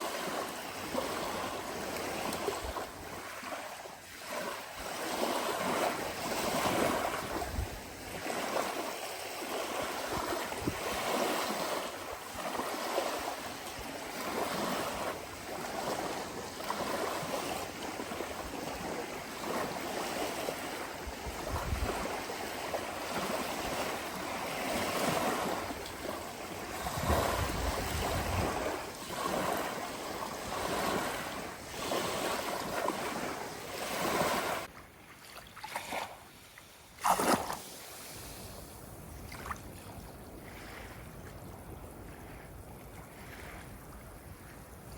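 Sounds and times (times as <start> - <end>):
low rumble of waves: 0.0 - 44.9
ocean waves breaking: 0.0 - 44.9.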